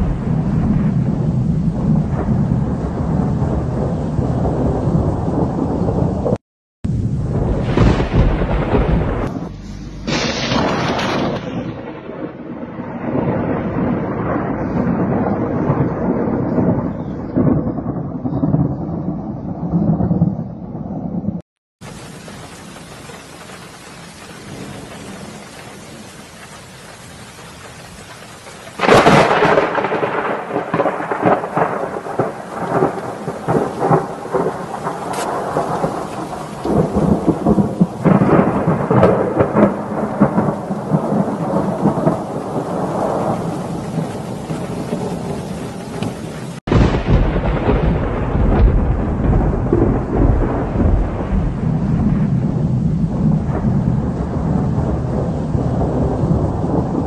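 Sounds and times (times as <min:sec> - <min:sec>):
thunder crack and rumble: 0:00.0 - 0:57.0
steady rain hiss: 0:01.0 - 0:12.4, 0:21.8 - 0:57.0.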